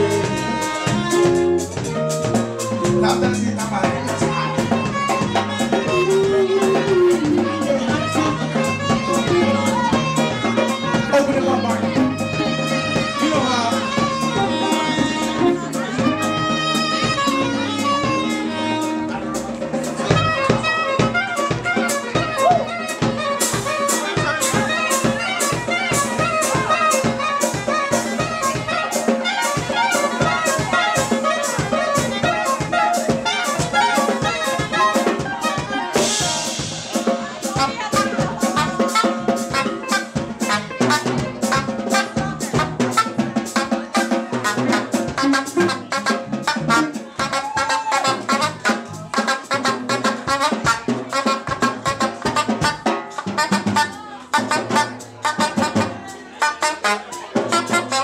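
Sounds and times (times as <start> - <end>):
soprano saxophone: 0.0 - 3.5, 4.1 - 36.3, 37.5 - 58.0
drum kit beat: 0.0 - 58.0
jazz band playing: 0.0 - 58.0.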